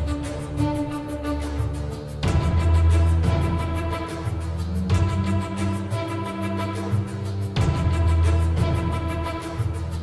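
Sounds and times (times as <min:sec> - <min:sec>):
dramatic music with deep bass: 0:00.0 - 0:10.0.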